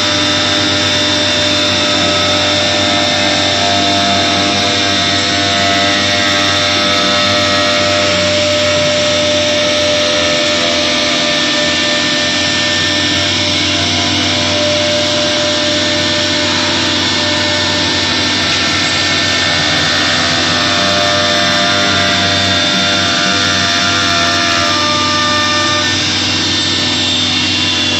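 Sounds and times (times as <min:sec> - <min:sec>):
machining noise: 0:00.0 - 0:27.9
router spindle whine: 0:00.0 - 0:27.9.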